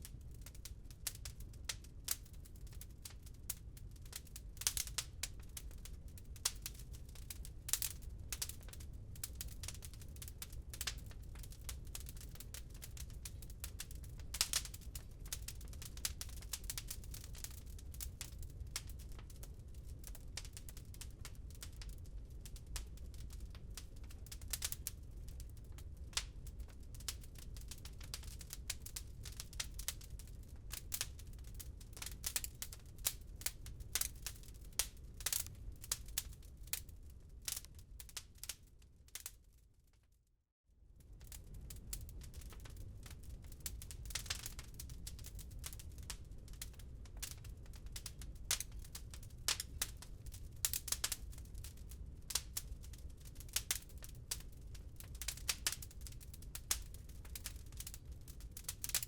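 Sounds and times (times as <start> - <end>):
wood fire crackling: 0.0 - 40.0, 41.0 - 59.0.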